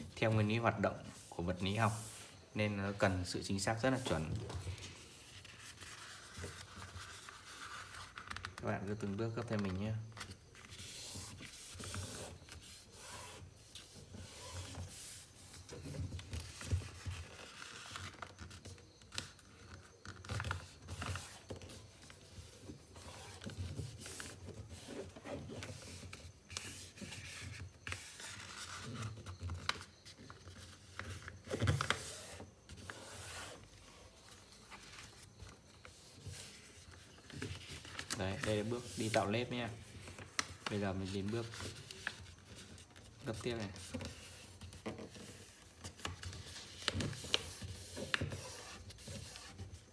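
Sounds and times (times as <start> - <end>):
paper rustling and creasing: 0.0 - 49.9.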